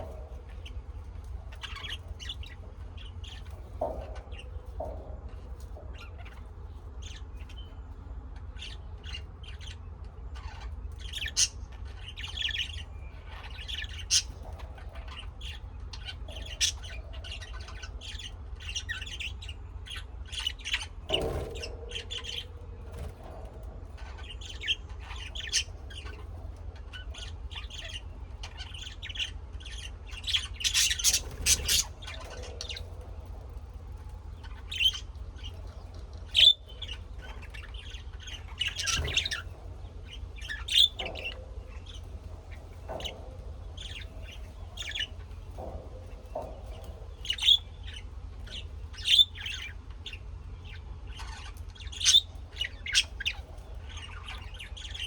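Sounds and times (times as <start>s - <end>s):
birds chirping and squawking: 0.0s - 55.0s
steady low hum: 0.0s - 55.0s.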